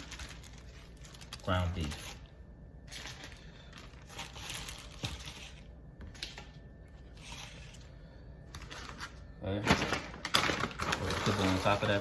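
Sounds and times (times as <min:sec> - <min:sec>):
packaging crinkling: 0:00.0 - 0:07.9, 0:08.6 - 0:12.0.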